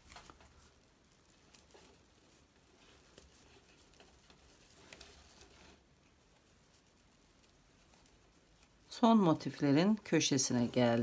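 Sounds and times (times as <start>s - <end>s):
rustling of crochet fabric: 0.0s - 11.0s.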